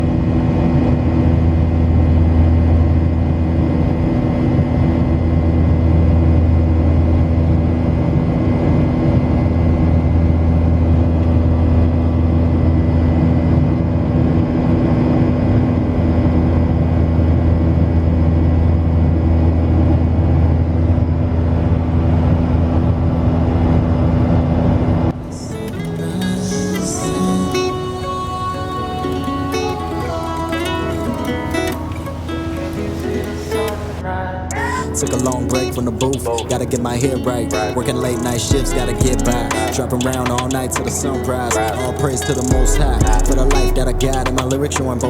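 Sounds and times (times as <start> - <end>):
vehicle engine drone: 0.0 - 45.0.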